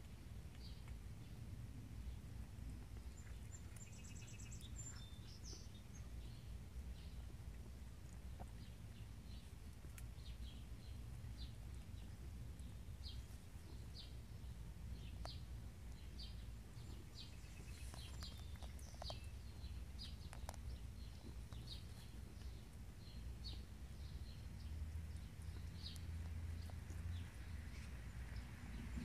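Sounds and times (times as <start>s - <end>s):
low outdoor rumble: 0.0s - 29.0s
small bird chirping: 2.0s - 29.0s.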